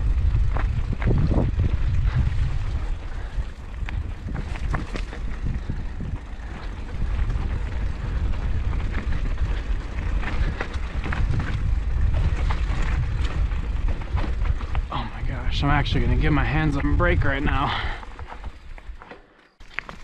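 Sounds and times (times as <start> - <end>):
wind buffeting microphone: 0.0 - 19.0
bike clicks and rattles: 0.0 - 20.0.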